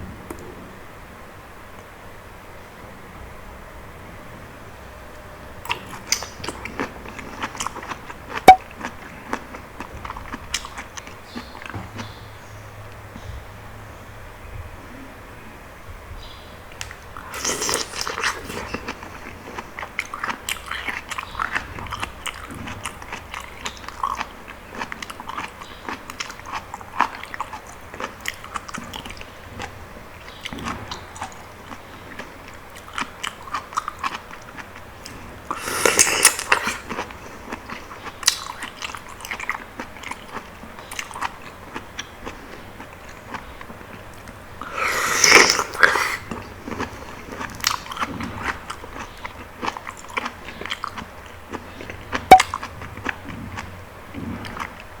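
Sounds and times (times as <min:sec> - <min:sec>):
wet chewing mouth sounds: 0:05.6 - 0:12.2, 0:16.8 - 0:55.0.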